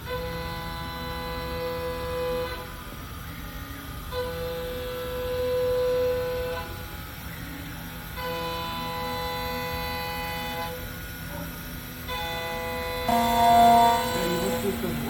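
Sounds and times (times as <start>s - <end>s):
cnc router motors whining: 0.0s - 15.0s.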